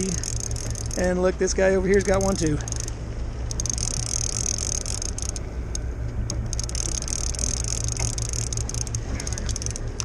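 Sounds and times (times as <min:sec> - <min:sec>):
boat engine hum: 0:00.0 - 0:10.0
fishing reel ticking rattle: 0:00.0 - 0:10.0.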